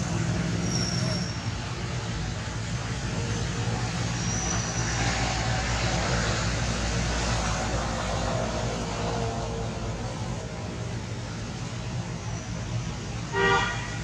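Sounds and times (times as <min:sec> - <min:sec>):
road hiss: 0:00.0 - 0:14.0
vehicle engine rumble: 0:00.0 - 0:14.0.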